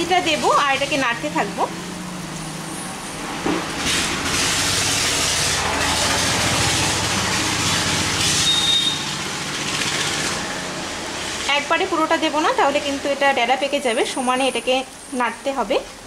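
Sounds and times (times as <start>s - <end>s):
boiling water bubbling and hissing: 0.0s - 13.2s.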